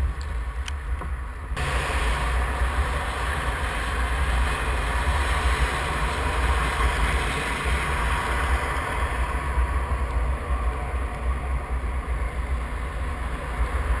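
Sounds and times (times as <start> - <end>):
vehicle traffic rumble: 0.0 - 14.0.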